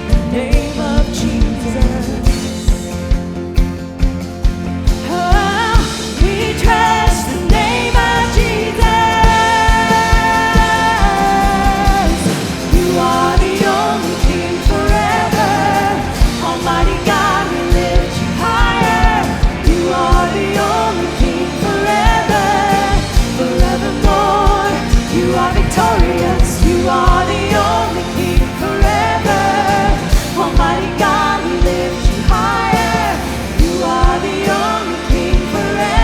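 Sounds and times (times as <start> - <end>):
person singing lead vocal: 0.0 - 3.4, 4.6 - 36.0
band with steady drum beat: 0.0 - 36.0.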